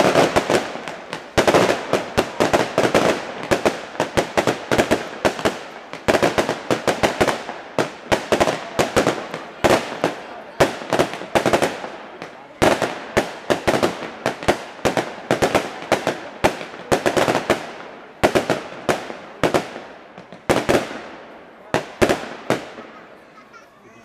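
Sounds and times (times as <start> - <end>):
fireworks bangs and crackles: 0.0 - 23.6.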